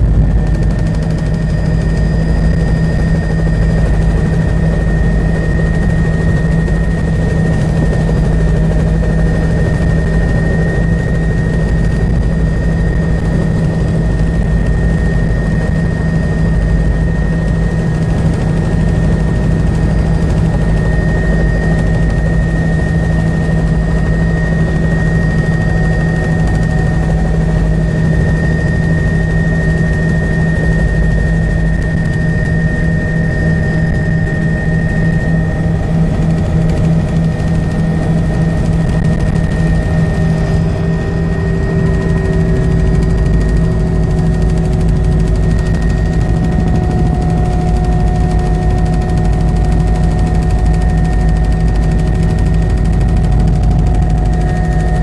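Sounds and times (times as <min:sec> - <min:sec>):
helicopter cabin drone: 0:00.0 - 0:55.0
steady high whine: 0:00.0 - 0:55.0.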